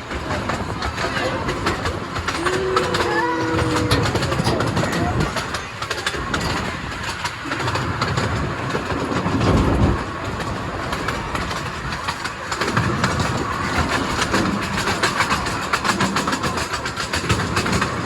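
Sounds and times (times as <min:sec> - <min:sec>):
train coach rattling: 0:00.0 - 0:18.0
train rumble: 0:00.0 - 0:18.0
train wheels clicking: 0:00.0 - 0:18.0.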